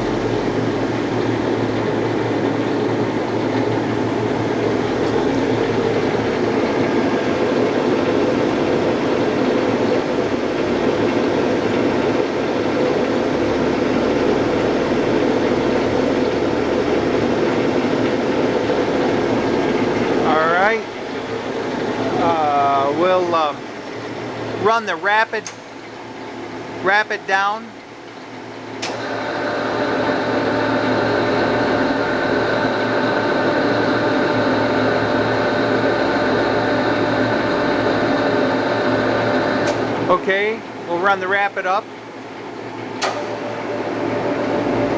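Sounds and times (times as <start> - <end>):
surface grinder running: 0.0 - 23.6, 29.0 - 41.8.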